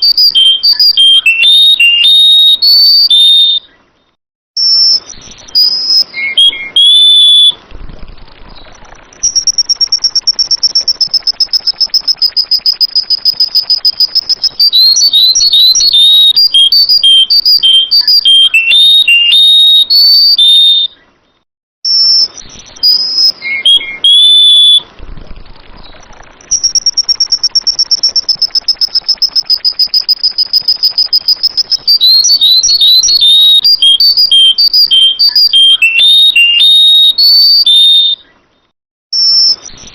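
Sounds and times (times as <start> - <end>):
high-pitched bird trill: 0.0 - 3.8, 4.6 - 7.6, 8.5 - 21.0, 21.9 - 24.9, 25.8 - 38.4, 39.2 - 39.9
bird singing whistled notes: 0.0 - 7.6, 8.5 - 24.9, 25.8 - 39.9.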